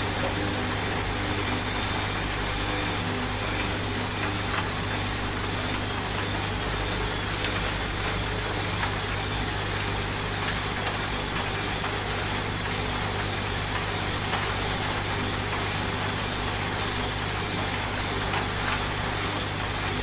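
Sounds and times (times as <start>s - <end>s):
steady rain: 0.0s - 20.0s
washing machine humming: 0.0s - 20.0s.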